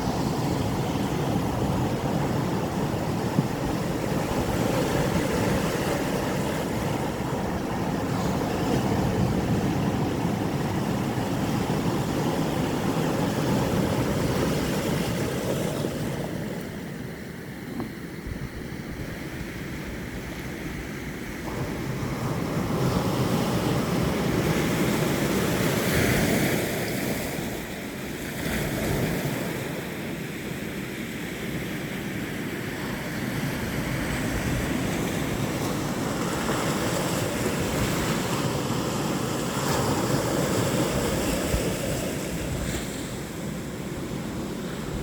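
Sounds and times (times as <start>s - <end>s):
wind rumbling on microphone: 0.0s - 29.8s, 32.6s - 45.0s
sea waves washing onto shore: 0.0s - 30.2s, 31.8s - 45.0s.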